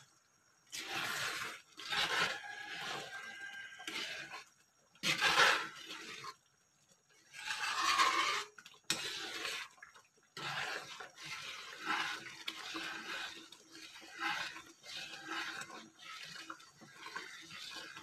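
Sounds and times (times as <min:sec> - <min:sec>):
spoon stirring bubbling porridge: 0:00.0 - 0:18.0
spoon scraping metal pot: 0:00.7 - 0:06.4, 0:07.2 - 0:18.0.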